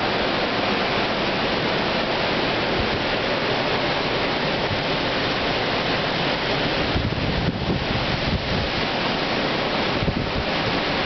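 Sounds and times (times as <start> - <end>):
strong wind blowing through trees: 0.0 - 11.0.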